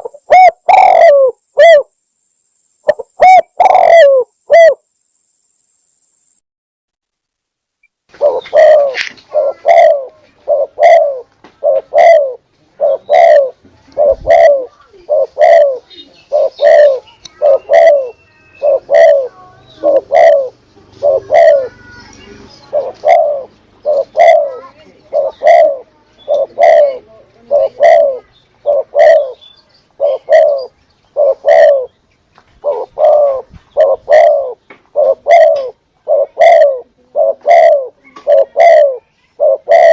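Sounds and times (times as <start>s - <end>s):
doves cooing: 0.0s - 1.9s, 2.9s - 4.8s, 8.1s - 32.0s, 32.6s - 39.9s.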